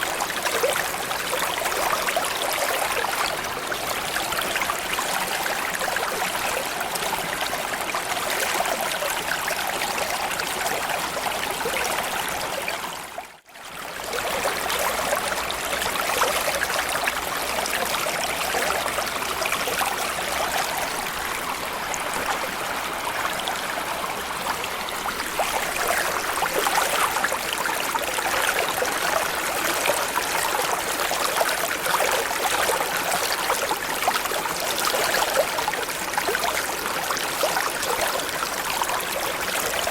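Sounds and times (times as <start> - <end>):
creek flowing over stones: 0.0 - 39.9.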